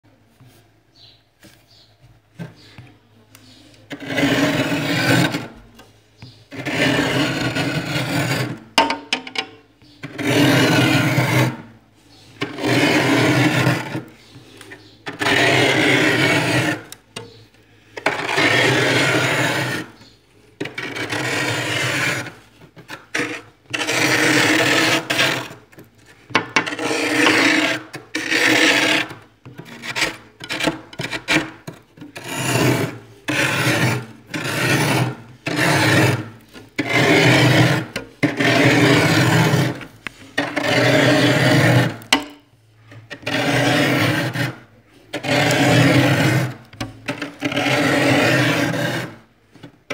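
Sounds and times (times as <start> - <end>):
metal spoon scraping frost: 3.4 - 9.2, 9.8 - 49.9.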